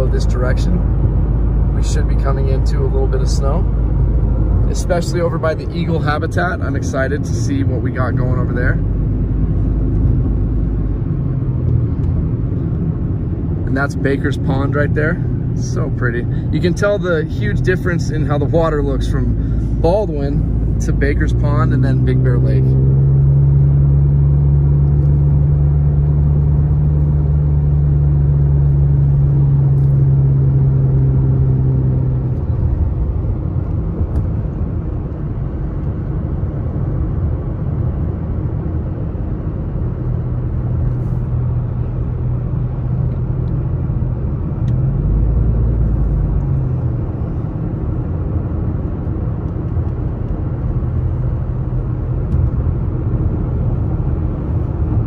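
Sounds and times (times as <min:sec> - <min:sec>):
car engine drone: 0:00.0 - 0:55.0
tyre and road rumble: 0:00.0 - 0:55.0.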